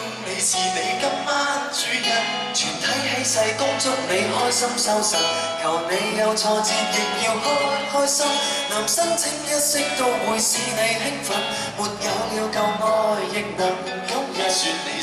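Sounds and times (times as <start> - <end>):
band playing pop music: 0.0 - 15.0
men singing into microphones: 0.0 - 15.0.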